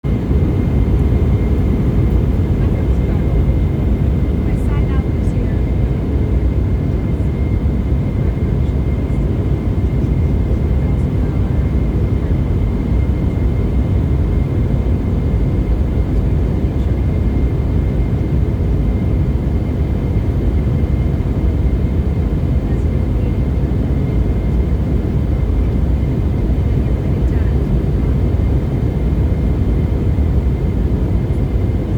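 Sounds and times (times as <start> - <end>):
aircraft engine drone: 0.1 - 31.9.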